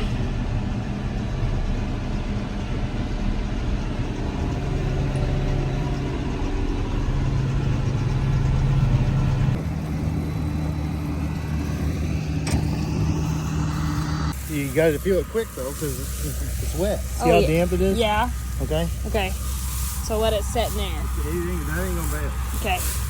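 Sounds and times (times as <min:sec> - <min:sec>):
tractor engine droning: 0:00.0 - 0:23.0.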